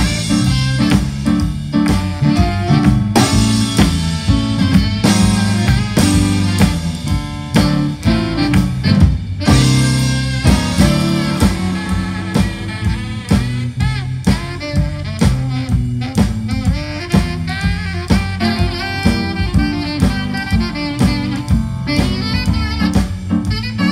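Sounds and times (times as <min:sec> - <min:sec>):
bass guitar: 0:00.0 - 0:23.9
drum kit beat: 0:00.0 - 0:23.9
guitar: 0:00.0 - 0:23.9
keyboard: 0:00.0 - 0:23.9
saxophones playing lead: 0:00.0 - 0:23.9.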